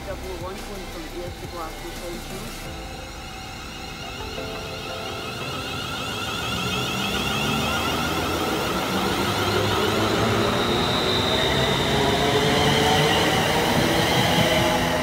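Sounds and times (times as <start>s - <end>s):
electric train approaching: 0.0s - 15.0s
high whine: 0.0s - 15.0s.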